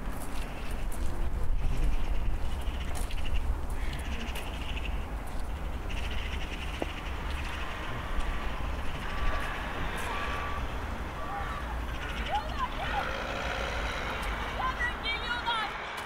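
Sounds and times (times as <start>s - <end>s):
harsh crow-like bird calls: 1.6s - 16.0s.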